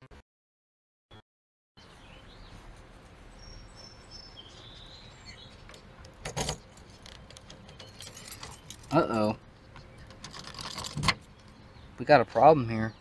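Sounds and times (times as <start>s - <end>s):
birds chirping faintly: 1.8s - 13.0s
outdoor background noise: 1.8s - 13.0s.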